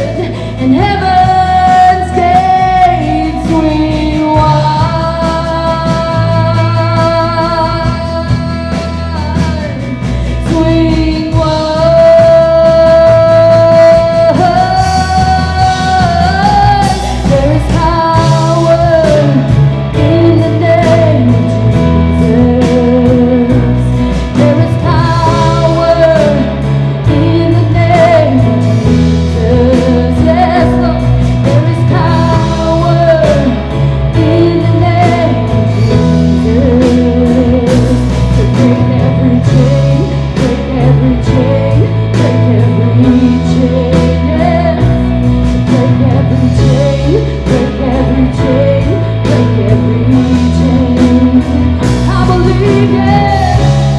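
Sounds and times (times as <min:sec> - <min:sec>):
person singing: 0:00.0 - 0:53.9
rock worship band playing: 0:00.0 - 0:53.9.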